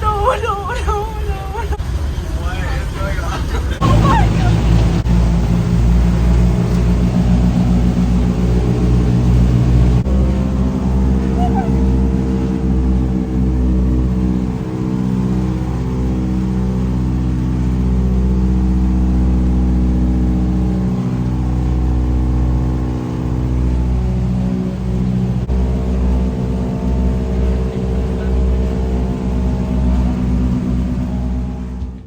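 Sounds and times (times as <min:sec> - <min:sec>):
propeller airplane engine in cabin: 0:00.0 - 0:32.0.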